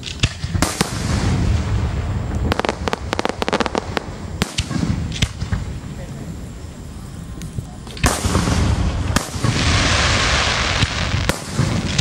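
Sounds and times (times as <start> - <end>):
firework bangs: 0.0 - 6.7, 7.8 - 12.0
crackling firework reports: 0.0 - 12.0.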